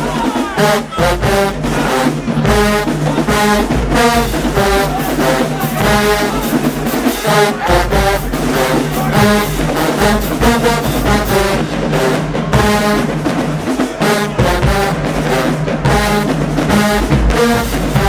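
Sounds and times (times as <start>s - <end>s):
brass instruments playing: 0.0s - 18.0s
marching drums: 0.0s - 18.0s.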